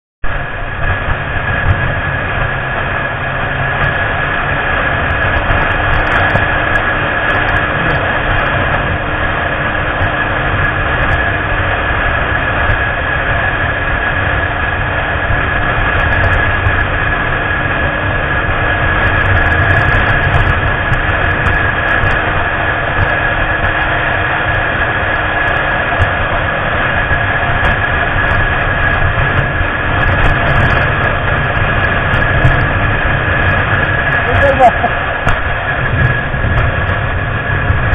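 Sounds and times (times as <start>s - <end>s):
constant high whine: 0.2s - 37.9s
motorcycle engine running: 0.2s - 37.9s
wind noise on microphone: 0.2s - 37.9s.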